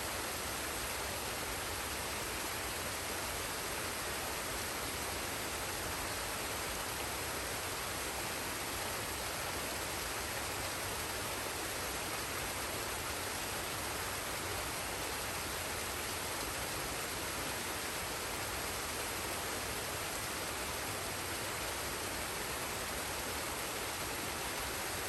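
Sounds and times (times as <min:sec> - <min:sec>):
waterfall and stream flowing: 0:00.0 - 0:25.0.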